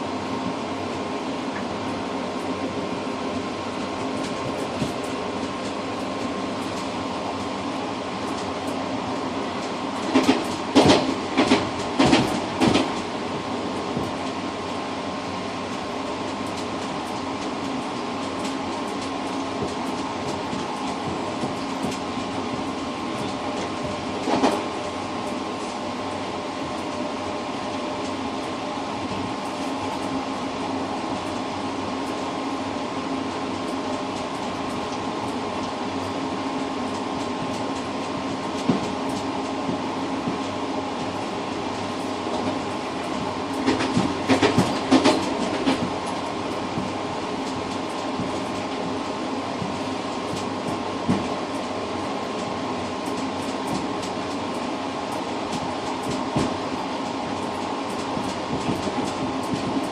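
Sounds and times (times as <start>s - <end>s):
train rolling rumble: 0.0s - 59.9s.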